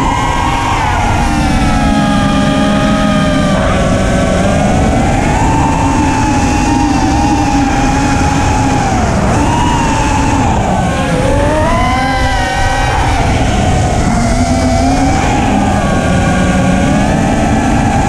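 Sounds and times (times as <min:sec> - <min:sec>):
drone motors whining: 0:00.0 - 0:18.0
wind rushing on microphone: 0:00.0 - 0:18.0.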